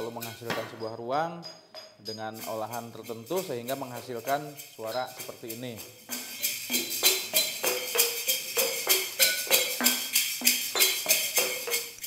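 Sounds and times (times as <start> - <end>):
bright jangling rattle: 0.0 - 12.0
glass bottle percussion: 0.0 - 12.0.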